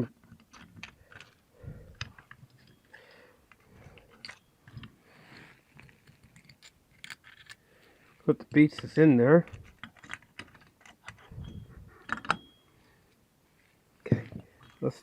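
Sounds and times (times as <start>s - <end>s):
light rustling of parts: 0.0s - 15.0s
small metal parts clicking: 0.1s - 12.5s.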